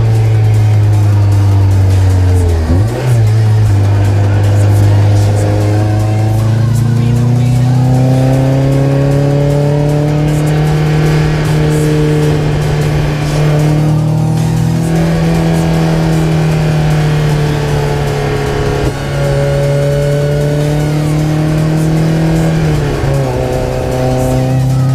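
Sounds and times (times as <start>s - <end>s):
car engine revving: 0.0s - 24.9s.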